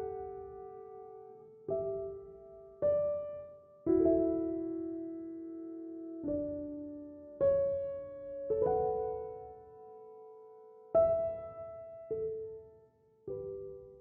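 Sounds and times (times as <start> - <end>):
slow gentle solo piano: 0.0 - 14.0.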